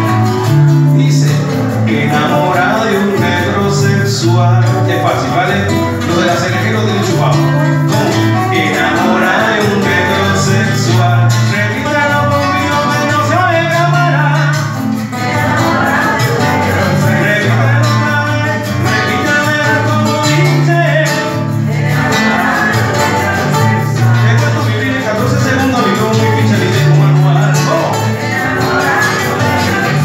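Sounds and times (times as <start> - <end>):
acoustic guitars playing: 0.0 - 30.0
man singing into microphone: 0.0 - 30.0.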